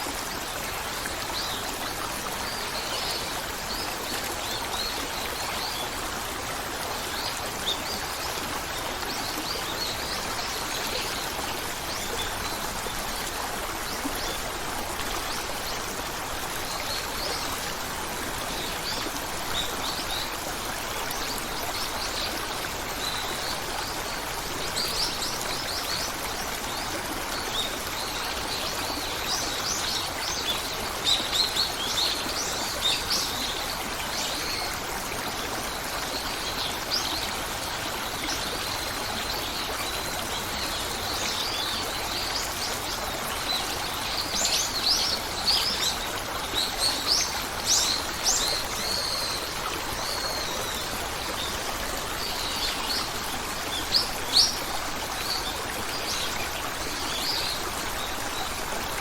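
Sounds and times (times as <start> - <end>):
flowing stream: 0.0 - 59.0.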